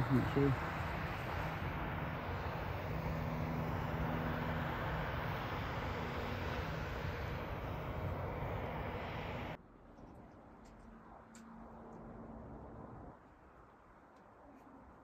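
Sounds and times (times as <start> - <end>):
diesel engines droning: 0.0 - 13.2
low engine hum: 0.0 - 13.3.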